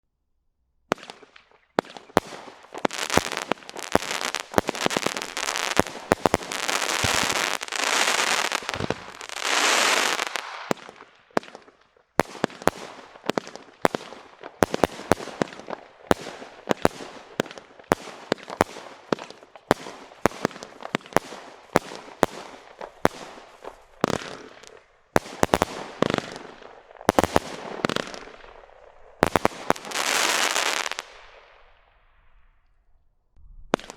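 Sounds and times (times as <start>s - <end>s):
firework shots with crackle: 0.9s - 32.0s, 33.6s - 33.9s.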